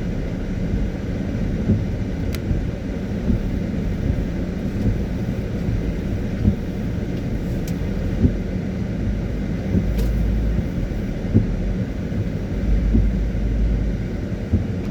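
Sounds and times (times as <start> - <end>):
car engine and tyres on wet road: 0.0 - 14.9
rain: 0.0 - 14.9.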